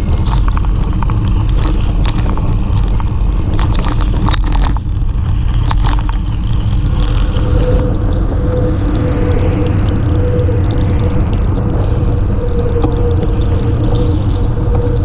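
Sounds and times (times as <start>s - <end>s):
bike tyres rolling on rough dirt: 0.0s - 15.0s
wind buffeting microphone: 0.0s - 15.0s.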